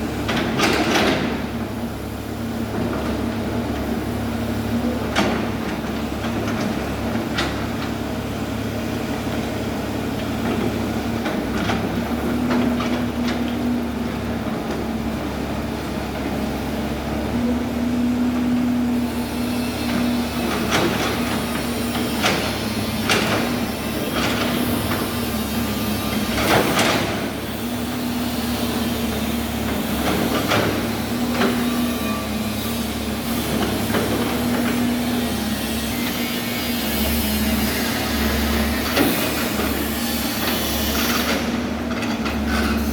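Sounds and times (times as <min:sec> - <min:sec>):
excavator engine running: 0:00.0 - 0:42.8.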